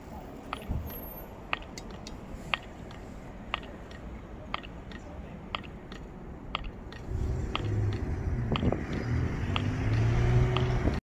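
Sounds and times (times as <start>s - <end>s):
sharp ticks: 1.5s - 11.0s.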